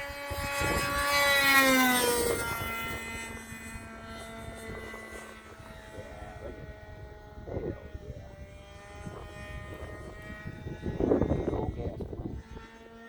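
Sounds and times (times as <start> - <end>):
model plane engine buzzing: 0.0 - 13.0.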